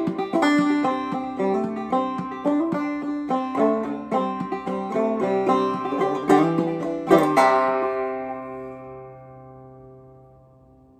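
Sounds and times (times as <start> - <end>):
banjo clawhammer picking: 0.0 - 10.6.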